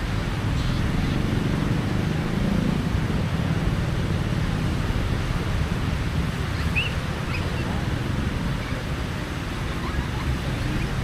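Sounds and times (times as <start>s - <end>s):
sea waves washing onto beach: 0.0s - 11.0s
wind rumble on microphone: 0.0s - 11.0s.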